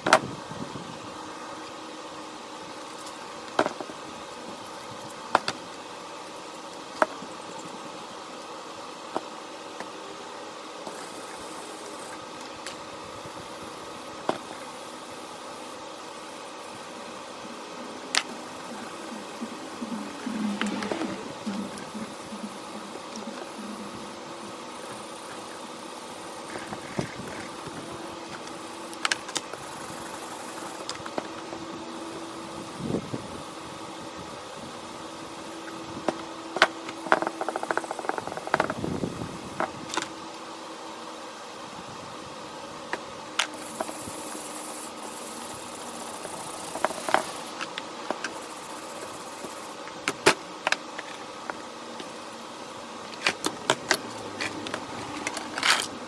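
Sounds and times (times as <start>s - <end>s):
workshop machine humming: 0.0s - 56.0s.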